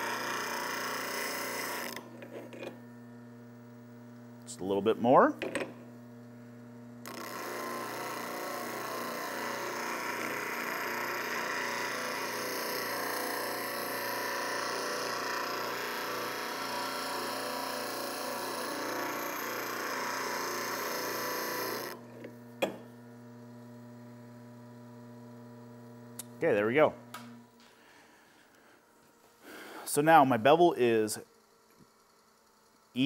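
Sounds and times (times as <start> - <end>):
grinder motor hum: 0.0 - 33.0.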